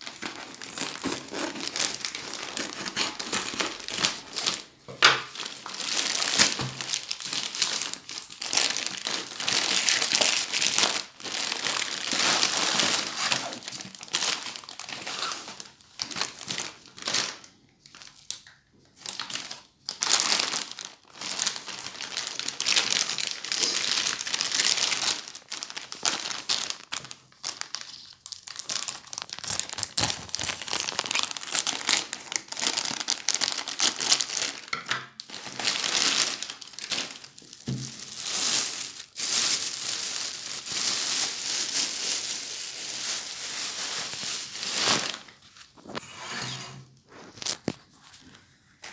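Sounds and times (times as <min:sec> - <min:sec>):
plastic bags crinkling: 0:00.0 - 0:46.0, 0:46.8 - 0:48.9.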